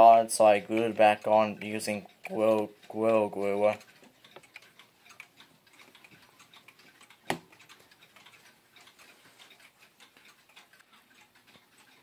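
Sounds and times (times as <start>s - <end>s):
wall clock ticking: 0.0s - 12.0s.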